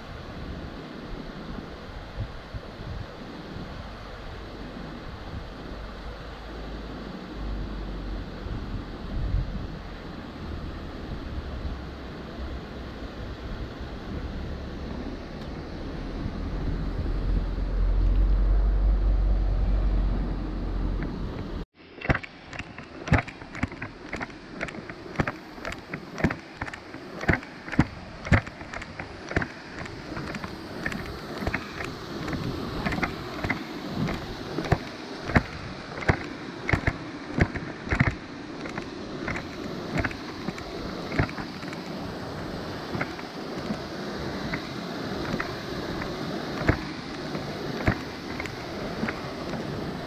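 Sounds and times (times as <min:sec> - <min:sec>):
creek water rushing: 0:00.0 - 0:50.0
wind buffeting microphone: 0:00.0 - 0:50.0.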